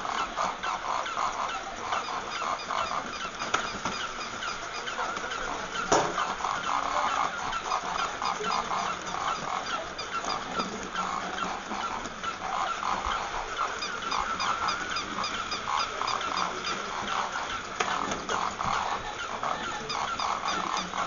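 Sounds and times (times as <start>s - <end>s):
animal-like toy calls: 0.0s - 21.0s.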